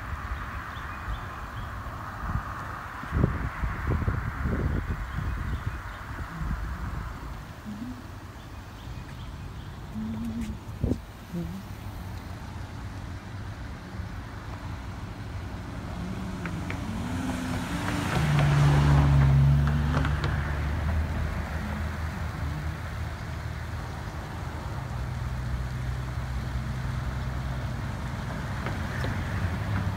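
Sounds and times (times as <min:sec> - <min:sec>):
car passing: 0:00.0 - 0:29.9
low engine hum: 0:00.0 - 0:29.9.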